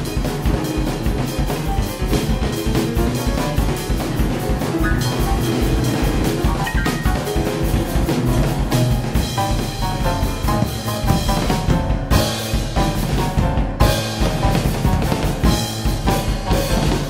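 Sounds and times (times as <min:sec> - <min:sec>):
fast jazz drumming: 0:00.0 - 0:17.0
piano runs: 0:00.0 - 0:17.0.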